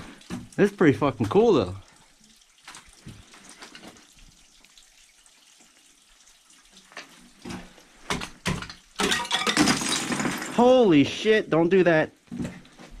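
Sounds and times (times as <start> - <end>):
small waterfall trickling: 0.0 - 9.0, 10.6 - 13.0.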